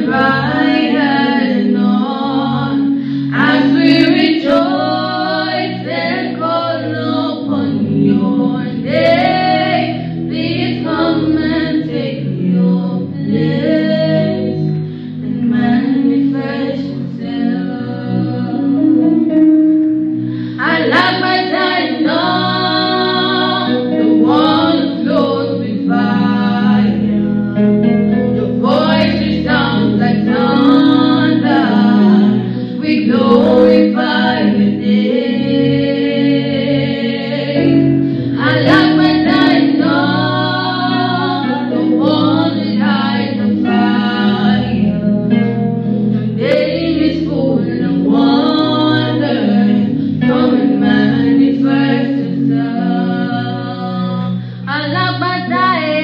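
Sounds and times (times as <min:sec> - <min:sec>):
women singing gospel song: 0:00.0 - 0:19.4, 0:20.5 - 0:27.4, 0:28.4 - 0:45.5, 0:46.2 - 0:56.0
low backing chords: 0:00.0 - 0:56.0.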